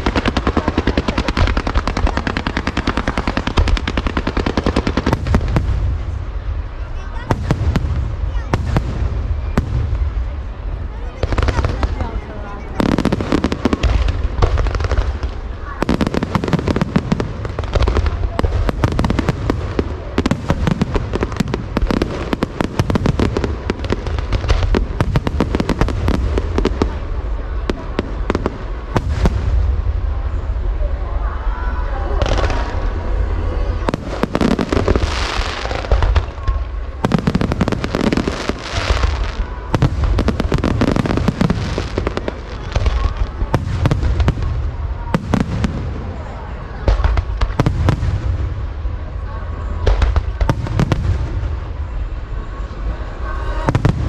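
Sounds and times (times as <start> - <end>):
fireworks bangs: 0.0 - 31.2, 31.8 - 54.0.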